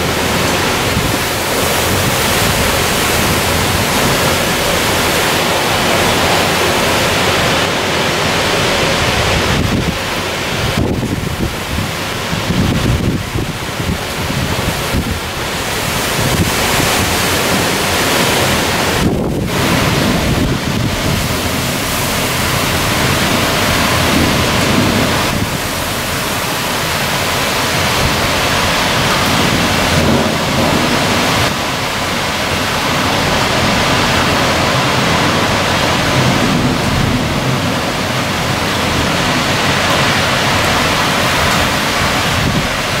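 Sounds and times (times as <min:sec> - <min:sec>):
heavy rain pouring: 0:00.0 - 0:43.0
wind buffeting microphone: 0:00.0 - 0:43.0
wind gusting in trees: 0:00.0 - 0:43.0.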